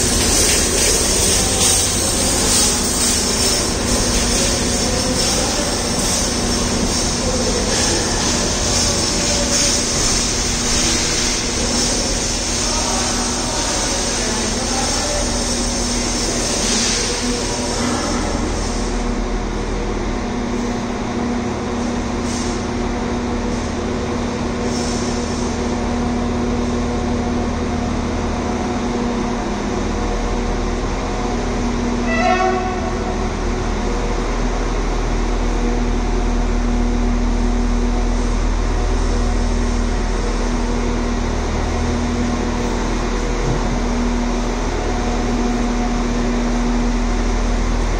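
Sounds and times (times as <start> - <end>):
train low rumble: 0.0 - 47.9.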